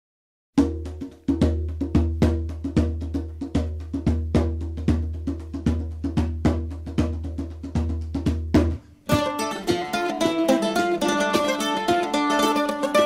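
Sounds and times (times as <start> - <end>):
drum steady beat: 0.6 - 13.0.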